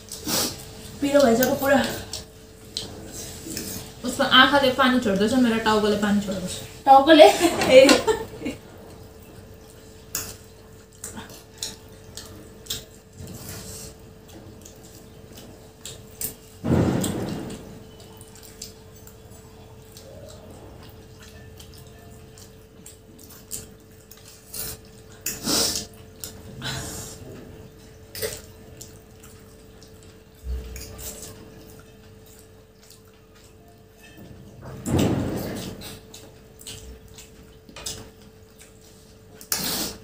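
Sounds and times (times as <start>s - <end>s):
people slurping and chewing: 0.0s - 6.9s, 7.6s - 40.0s.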